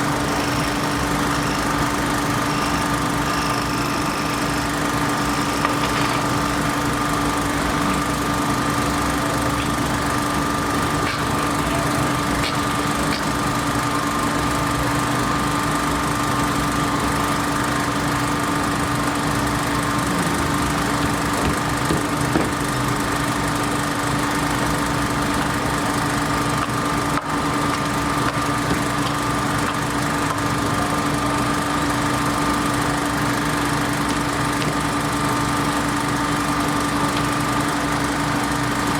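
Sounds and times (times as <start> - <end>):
machine humming and whining: 0.0 - 38.9.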